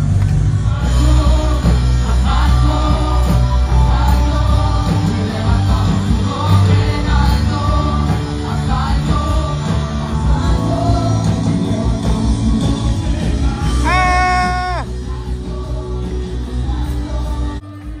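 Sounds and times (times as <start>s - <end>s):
live band playing amplified music: 0.0s - 18.0s
person singing: 0.7s - 18.0s.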